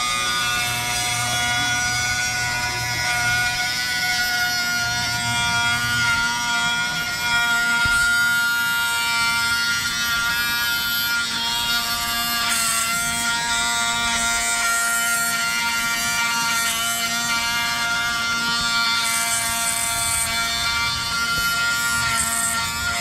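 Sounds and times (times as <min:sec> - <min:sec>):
bit grinding on steel: 0:00.0 - 0:23.0
rotary tool whining: 0:00.0 - 0:23.0.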